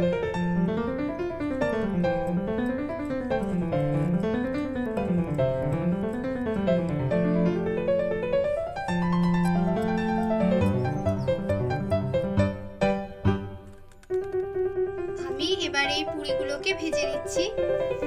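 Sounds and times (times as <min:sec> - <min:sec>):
piano music with quick runs: 0:00.0 - 0:18.0.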